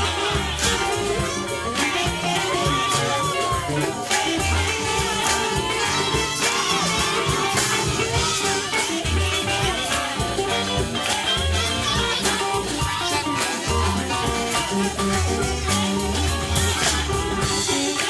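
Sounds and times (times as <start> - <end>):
bass: 0.0 - 18.0
drum kit: 0.0 - 18.0
guitars: 0.0 - 18.0
keyboard: 0.0 - 18.0.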